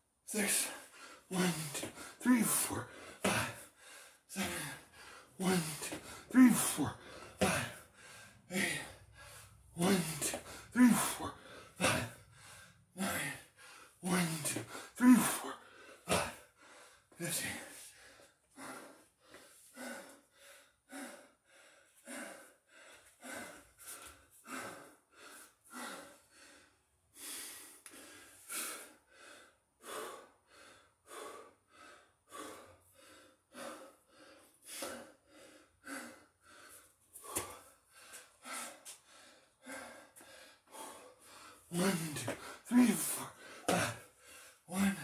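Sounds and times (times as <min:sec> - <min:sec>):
man breathing hard: 0:00.3 - 0:45.0.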